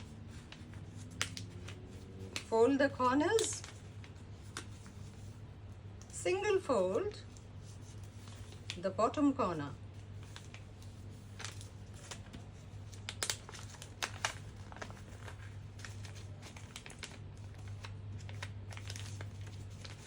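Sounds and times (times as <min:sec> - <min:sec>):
low steady hum: 0:00.0 - 0:20.0
paper crinkling and folding: 0:00.0 - 0:20.0.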